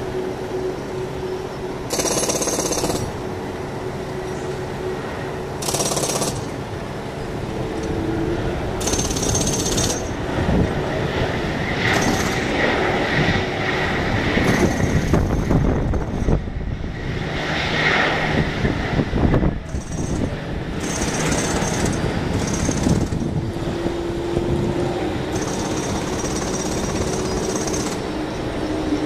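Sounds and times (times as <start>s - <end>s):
jet engine rumble: 0.0s - 29.0s
steady engine whine: 0.0s - 29.0s.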